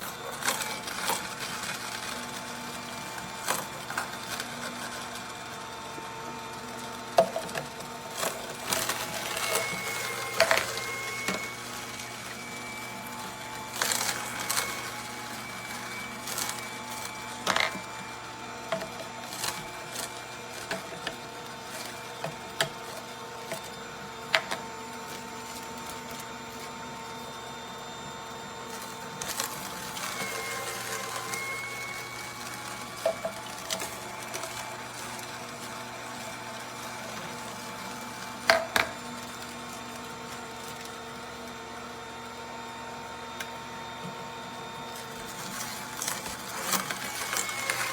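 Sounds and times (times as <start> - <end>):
juicer motor humming: 0.0 - 47.9.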